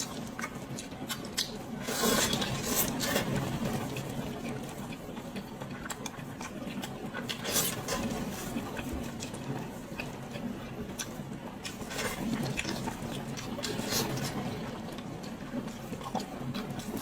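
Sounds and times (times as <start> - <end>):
wet chewing and smacking: 0.0 - 17.0.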